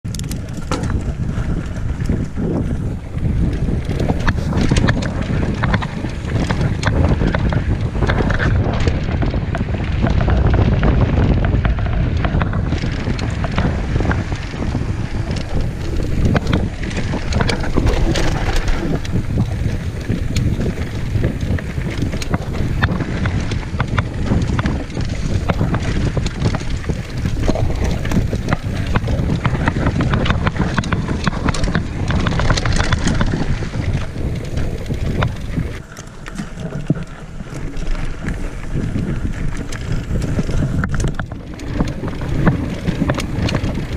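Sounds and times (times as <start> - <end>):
bike rattling over bumps: 0.0 - 43.9
wind buffeting microphone: 0.0 - 43.9
tyres rolling on dirt: 0.1 - 43.9.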